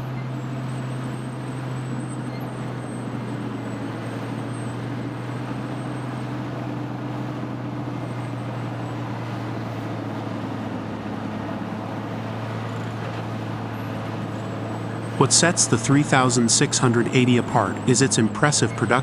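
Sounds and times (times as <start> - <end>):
wood grinder engine droning: 0.0 - 19.0.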